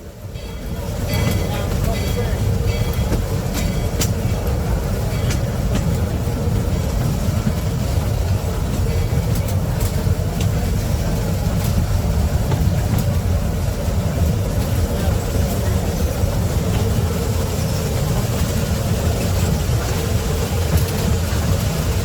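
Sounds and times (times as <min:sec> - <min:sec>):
heavy vehicle rumbling: 0:00.0 - 0:22.0.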